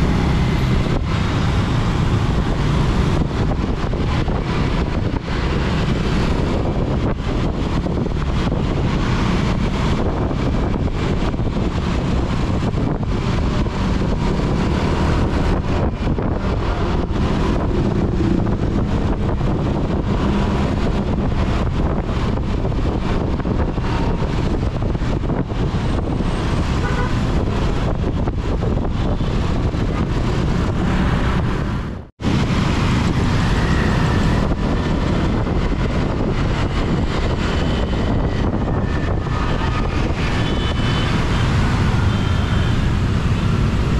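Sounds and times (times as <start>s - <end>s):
passing traffic: 0.0s - 43.9s
wind buffeting microphone: 0.0s - 43.9s.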